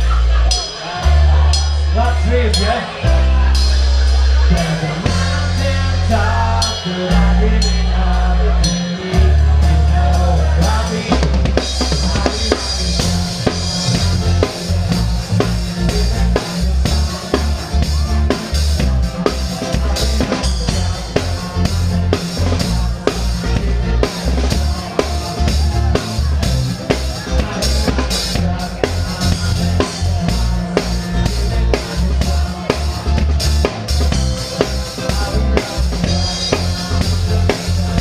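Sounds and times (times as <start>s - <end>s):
live band playing: 0.0s - 38.0s
long held bass notes: 0.0s - 38.0s.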